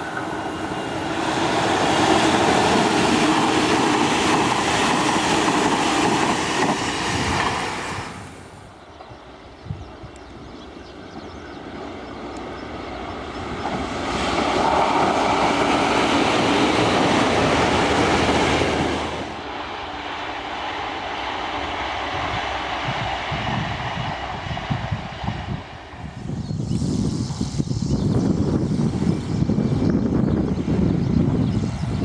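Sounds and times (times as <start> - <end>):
train passing at speed: 0.0 - 32.0.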